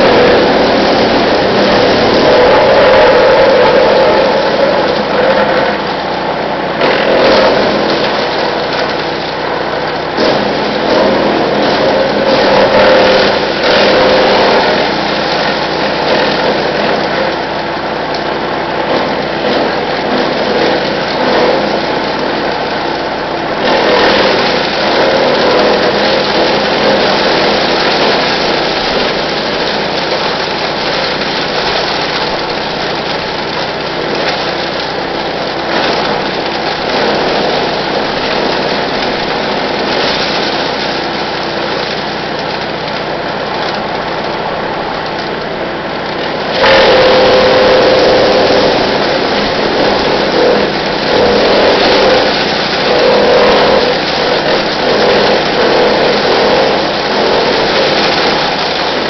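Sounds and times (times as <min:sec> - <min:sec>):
branches crackling and snapping: 0:00.0 - 0:59.0
wood chipper engine drone: 0:00.0 - 0:59.0.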